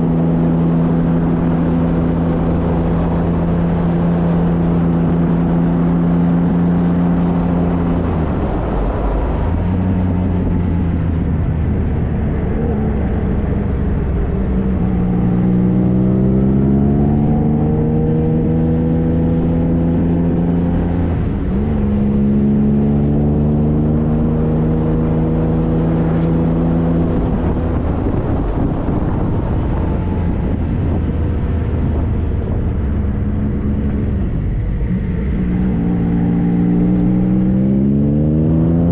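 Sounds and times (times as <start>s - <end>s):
motorcycle engine accelerating: 0.0s - 38.9s
wind and road noise: 0.0s - 38.9s.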